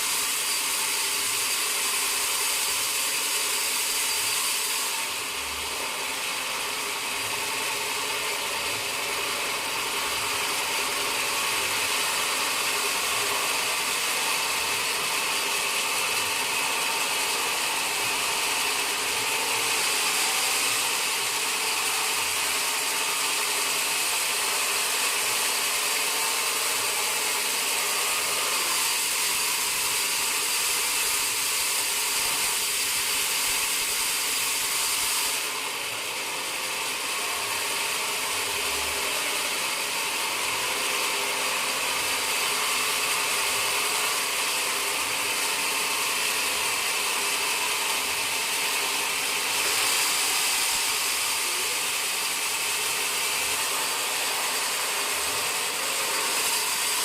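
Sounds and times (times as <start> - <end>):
saw whining while cutting wood: 0.0 - 57.0.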